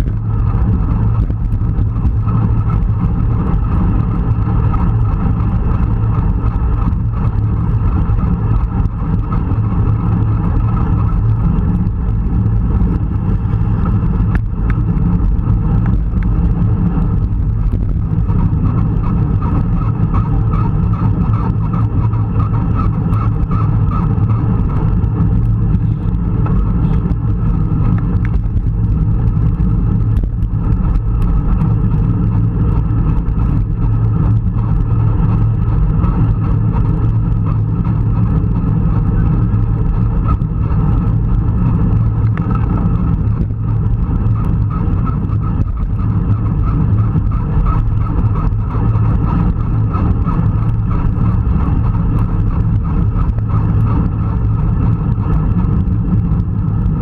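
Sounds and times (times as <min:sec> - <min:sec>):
bike tyres humming on tarmac: 0:00.0 - 0:57.0
wind on microphone: 0:00.0 - 0:57.0.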